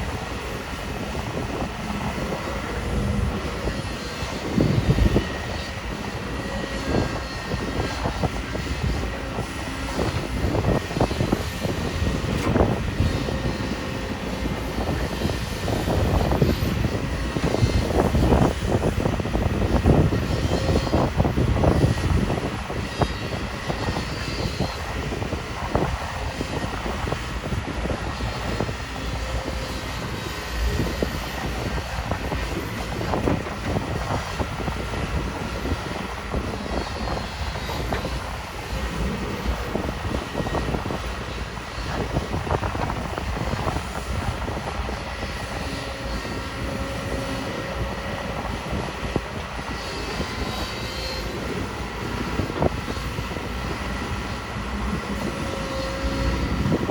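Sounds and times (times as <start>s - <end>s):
excavator diesel engine: 0.0s - 56.9s.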